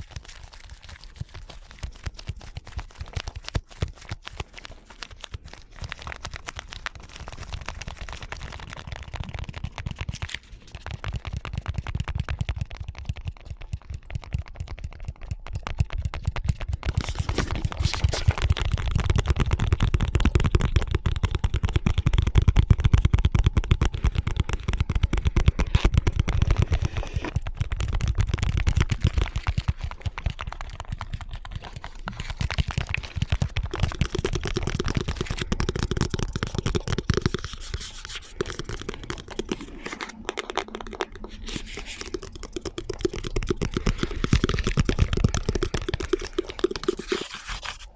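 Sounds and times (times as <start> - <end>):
rapid nail and fingertip tapping: 5.9 - 26.8, 27.6 - 47.8.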